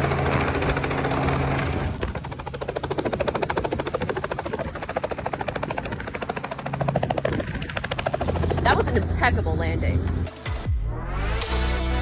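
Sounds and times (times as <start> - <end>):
helicopter rotor blades chopping: 0.0 - 10.7.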